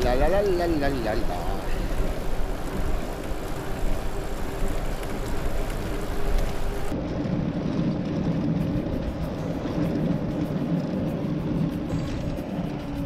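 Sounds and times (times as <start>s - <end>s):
dull rumble with low hum: 0.0s - 13.0s
tyres rolling: 0.0s - 13.0s
wind rushing over microphone: 0.0s - 13.0s.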